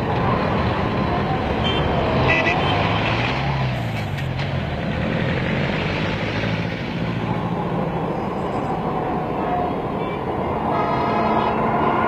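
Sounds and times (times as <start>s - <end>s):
street noise: 0.0s - 12.0s
tram mechanical drone: 0.0s - 12.0s.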